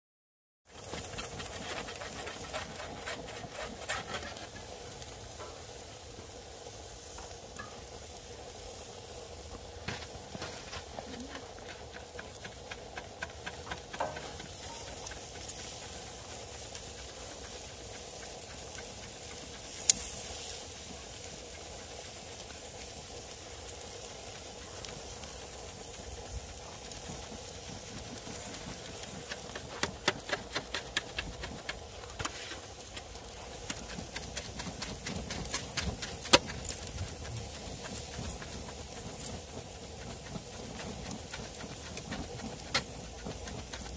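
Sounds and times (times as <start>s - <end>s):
meat sizzling on charcoal grill: 0.7s - 43.9s.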